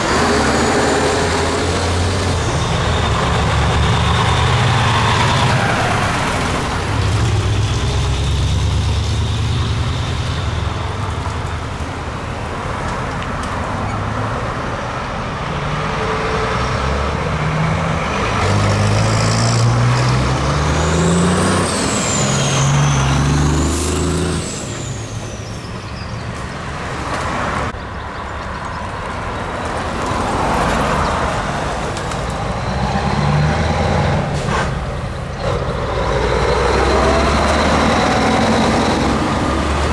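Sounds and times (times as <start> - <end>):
diesel trucks driving past: 0.0 - 39.9.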